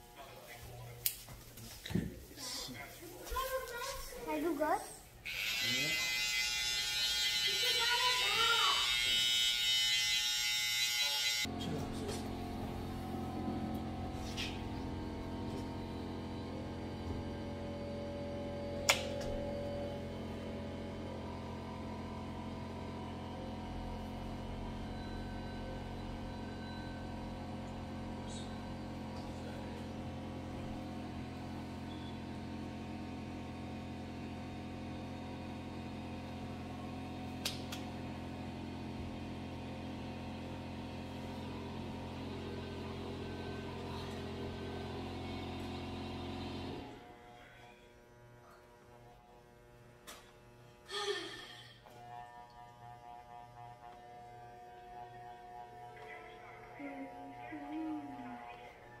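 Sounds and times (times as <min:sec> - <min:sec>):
electric hair clippers humming: 0:05.2 - 0:59.0.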